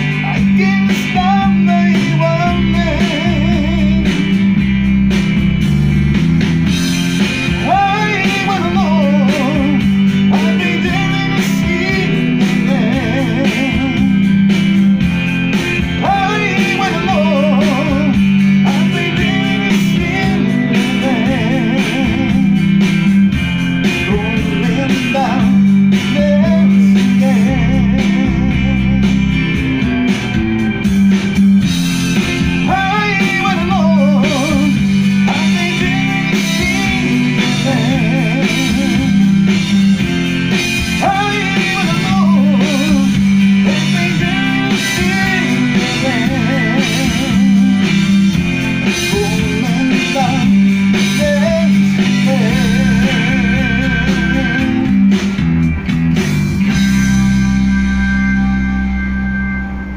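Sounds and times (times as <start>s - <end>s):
rock song with guitar and vocals: 0.0s - 59.9s.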